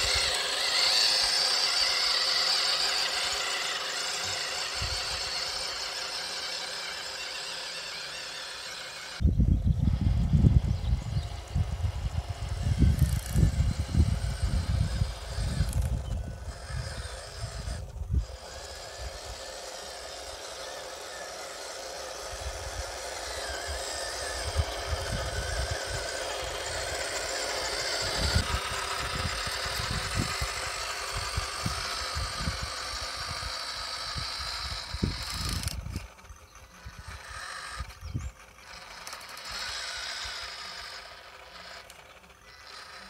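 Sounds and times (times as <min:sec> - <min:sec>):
toy truck motor whining: 0:00.0 - 0:43.0.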